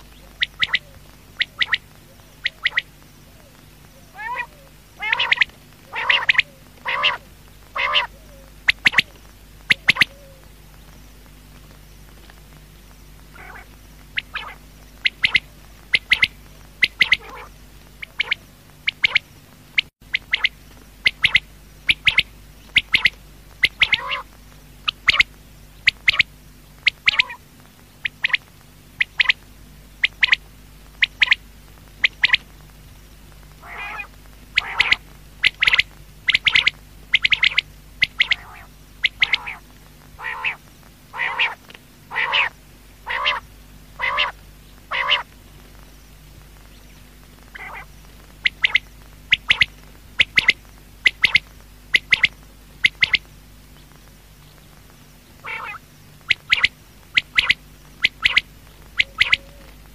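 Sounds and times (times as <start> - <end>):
quail calling: 0.0 - 10.5, 13.3 - 27.4, 28.0 - 29.4, 30.0 - 30.4, 31.0 - 31.4, 32.0 - 32.4, 33.6 - 45.4, 47.5 - 53.3, 55.4 - 59.9
faint steady hum: 0.0 - 59.9.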